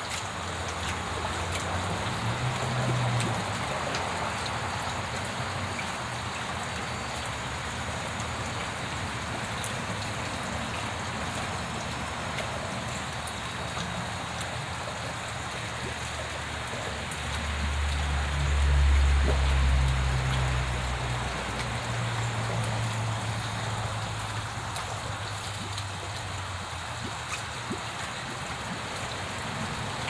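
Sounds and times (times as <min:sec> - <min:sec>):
water splashing on pond: 0:00.0 - 0:30.0.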